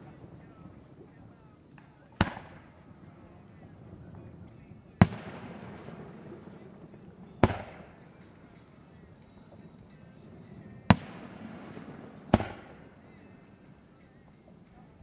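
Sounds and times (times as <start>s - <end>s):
firework bangs with echo: 0.0s - 13.5s.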